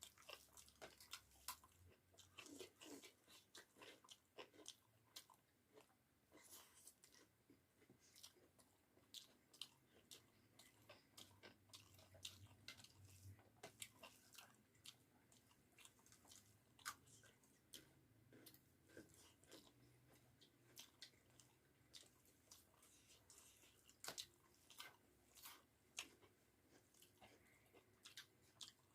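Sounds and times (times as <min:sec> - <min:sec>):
person chewing food: 0:00.0 - 0:28.9.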